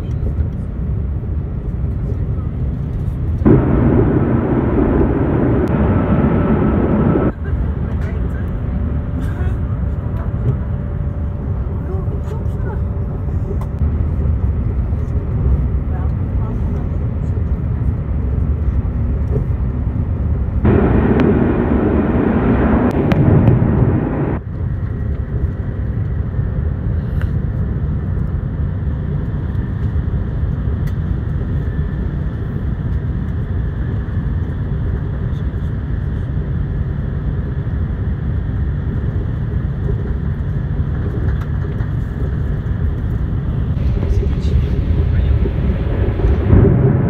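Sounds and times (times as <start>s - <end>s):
train cabin rumble and rush: 0.0s - 47.0s.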